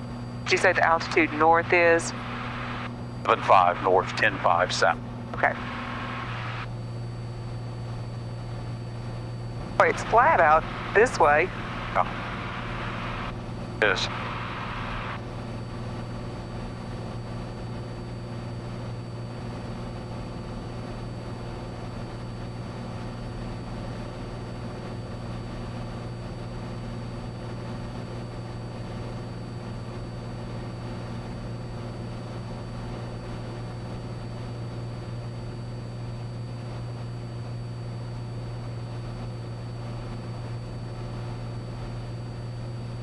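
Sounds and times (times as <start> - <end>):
airplane engine drone in cabin: 0.0 - 43.0.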